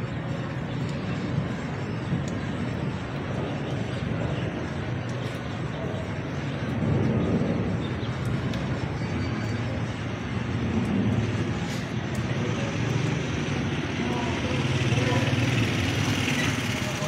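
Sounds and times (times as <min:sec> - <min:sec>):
low urban rumble: 0:00.0 - 0:17.0.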